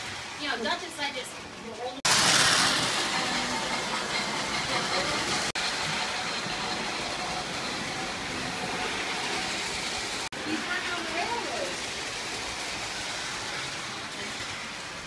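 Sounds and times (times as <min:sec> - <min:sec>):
model train whirring on track: 0:00.0 - 0:15.0.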